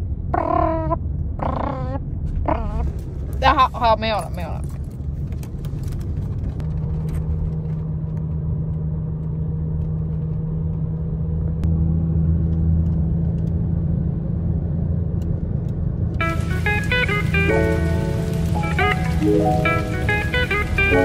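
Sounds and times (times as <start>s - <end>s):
car engine and road rumble: 0.0s - 21.0s
constant low hum: 0.0s - 21.0s.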